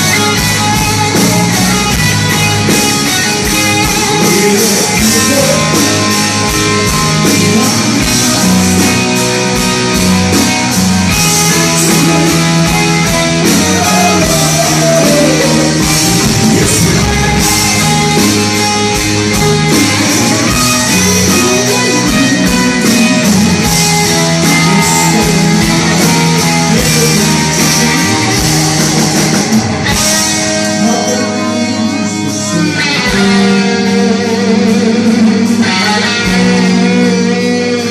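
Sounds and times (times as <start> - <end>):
live rock band playing: 0.0 - 37.9
man singing: 2.8 - 9.3, 11.1 - 29.1, 30.0 - 37.9.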